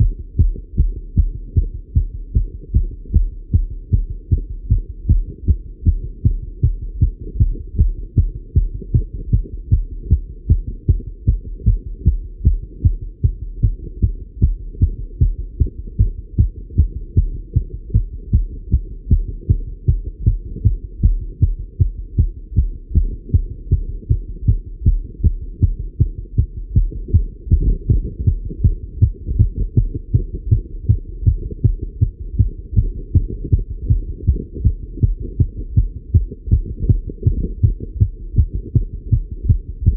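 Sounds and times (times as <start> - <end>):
fast heartbeat thumps: 0.0 - 39.9.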